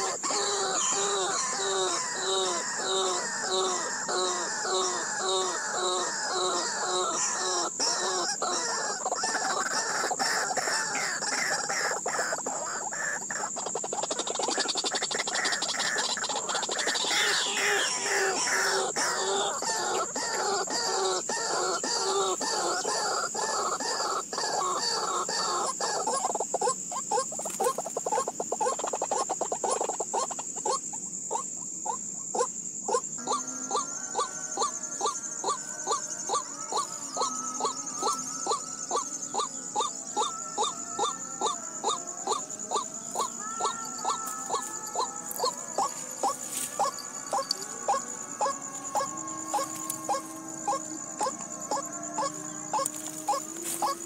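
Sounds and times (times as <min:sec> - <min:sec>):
birds calling rhythmically: 0:00.0 - 0:54.0.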